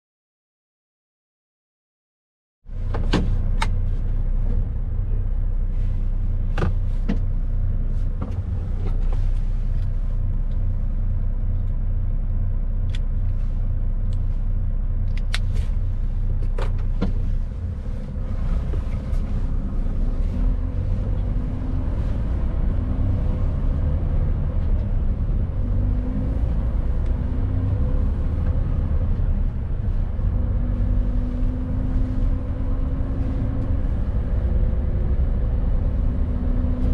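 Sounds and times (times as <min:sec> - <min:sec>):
road noise: 0:02.7 - 0:36.9
truck diesel engine rumbling: 0:02.7 - 0:36.9.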